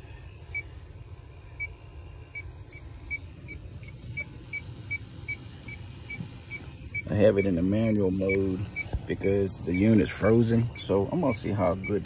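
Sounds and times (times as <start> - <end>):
low steady rumble: 0.0 - 12.0
leak detector beeping: 0.4 - 12.0.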